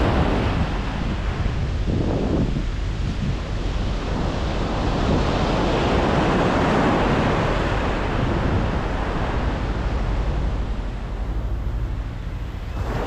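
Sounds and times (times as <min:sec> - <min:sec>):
wave breaking and washing in: 0:00.0 - 0:13.0
wind buffeting microphone: 0:00.0 - 0:13.0.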